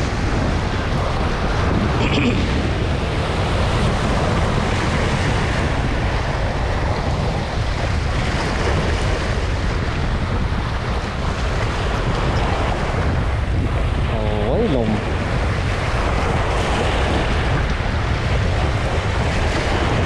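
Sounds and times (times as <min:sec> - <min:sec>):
waves washing on shore: 0:00.0 - 0:20.0
wind buffeting microphone: 0:00.0 - 0:20.0.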